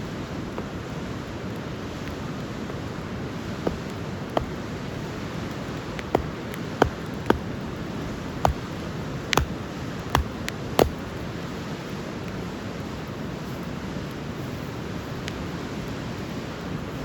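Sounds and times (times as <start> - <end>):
campfire crackling: 0.0 - 15.5.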